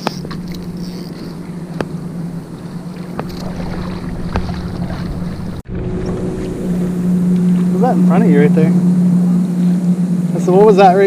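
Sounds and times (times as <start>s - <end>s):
motorboat engine droning: 0.0s - 11.0s
wind on microphone: 0.0s - 11.0s.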